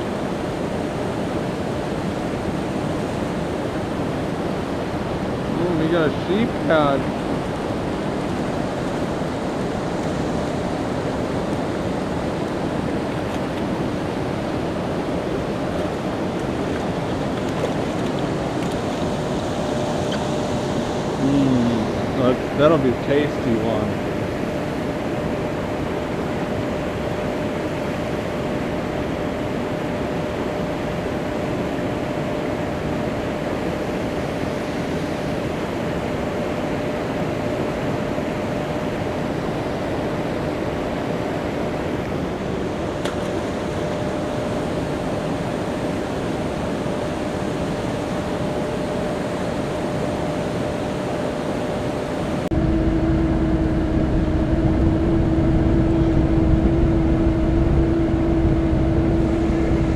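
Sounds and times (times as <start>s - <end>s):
boat motor droning: 0.0s - 59.9s.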